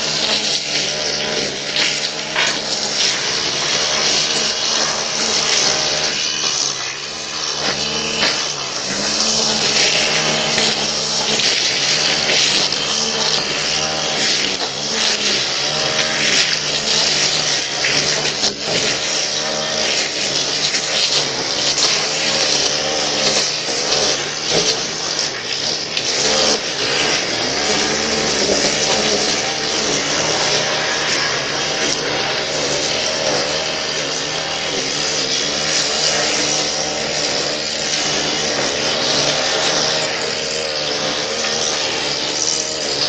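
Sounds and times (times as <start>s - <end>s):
line trimmer engine revving: 0.0s - 43.0s.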